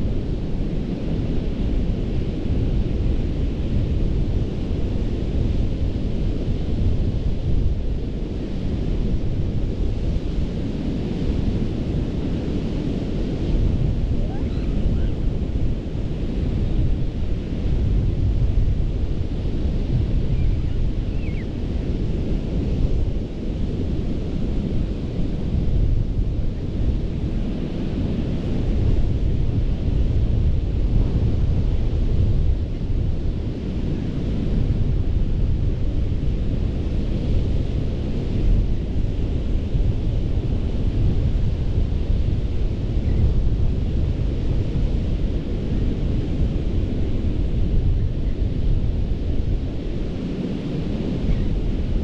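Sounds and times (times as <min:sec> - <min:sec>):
ocean surf on beach: 0:00.0 - 0:52.0.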